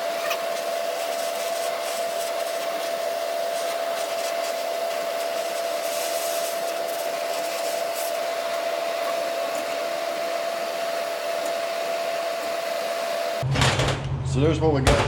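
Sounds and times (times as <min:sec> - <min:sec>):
fan motor whirring: 0:00.0 - 0:15.0.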